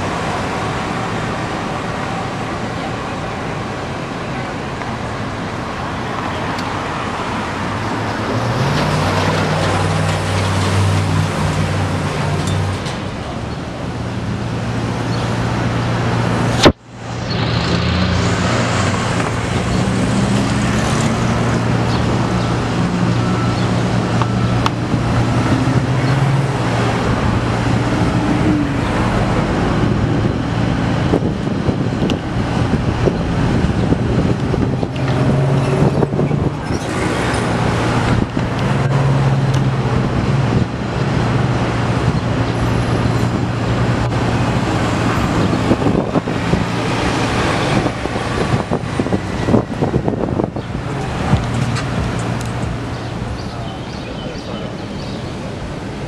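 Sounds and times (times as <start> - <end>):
bus engine hum: 0.0 - 56.0
cars and buses passing: 0.0 - 56.0.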